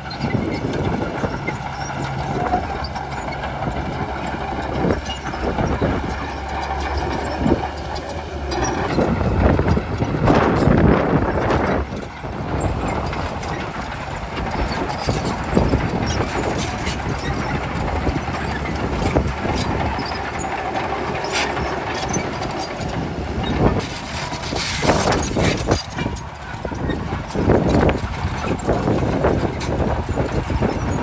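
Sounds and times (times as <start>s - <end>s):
diesel engine running: 0.0s - 31.0s
steel tracks clanking: 0.0s - 31.0s.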